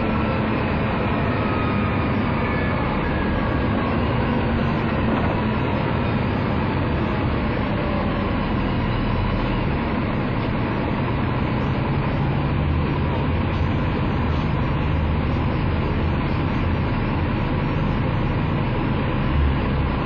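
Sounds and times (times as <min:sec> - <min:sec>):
bus diesel engine idling: 0:00.0 - 0:20.0.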